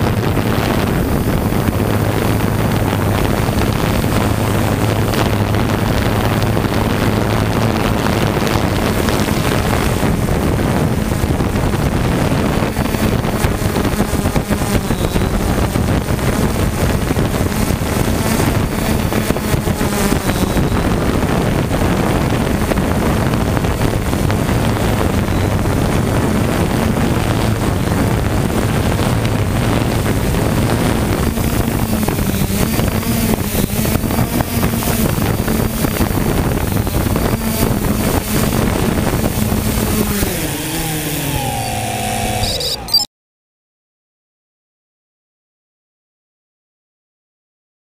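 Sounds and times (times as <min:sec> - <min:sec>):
quadcopter motors whirring: 0:00.0 - 0:43.1
wind noise on microphone: 0:00.0 - 0:43.1.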